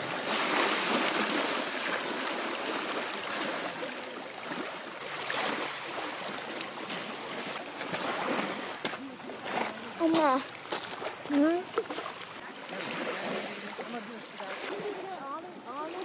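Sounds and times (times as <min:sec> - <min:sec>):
lake waves lapping on rocks: 0:00.0 - 0:16.0.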